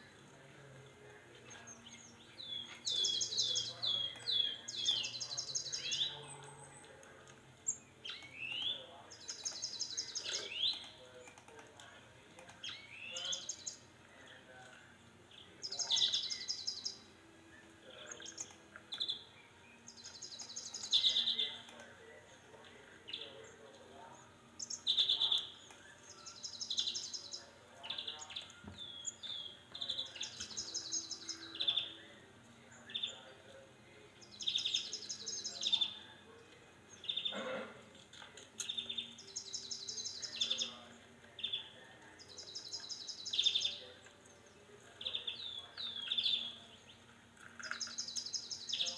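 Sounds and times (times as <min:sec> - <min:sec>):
songbird trilling song: 0:00.0 - 0:14.4, 0:15.3 - 0:37.4, 0:38.4 - 0:48.9.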